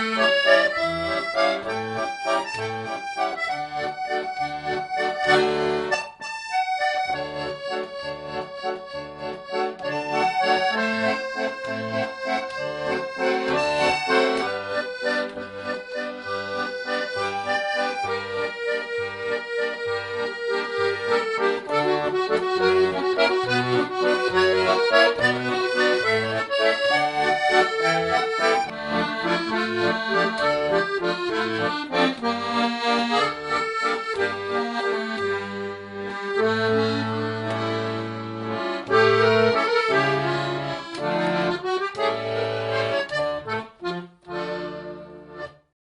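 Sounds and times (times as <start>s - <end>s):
accordion music: 0.0s - 45.8s.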